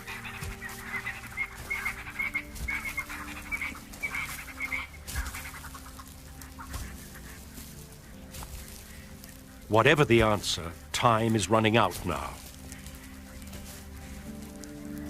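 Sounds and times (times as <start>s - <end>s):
animal clucking calls: 0.0s - 15.0s.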